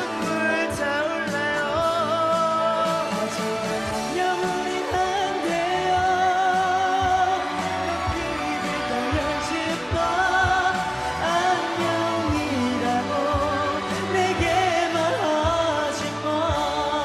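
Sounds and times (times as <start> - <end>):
backing music with steady beat: 0.0 - 17.0
man singing pop ballad: 0.0 - 17.0.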